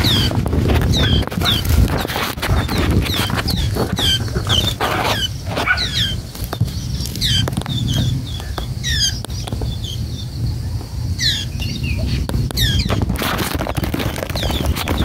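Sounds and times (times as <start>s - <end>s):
wings fluttering: 0.0s - 10.0s, 11.4s - 15.0s
low steady rumble: 0.0s - 14.8s
fledglings chirping: 0.0s - 15.0s.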